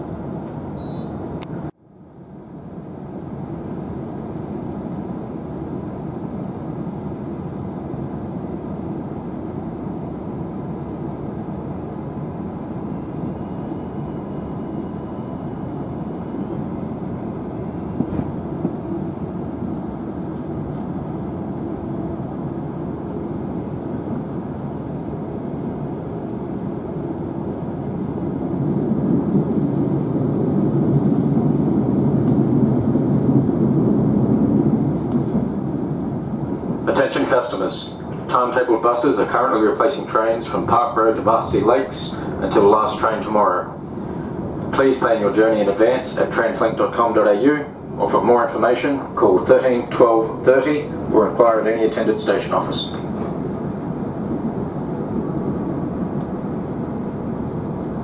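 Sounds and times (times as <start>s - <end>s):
train wheels rumbling on track: 2.9s - 58.0s.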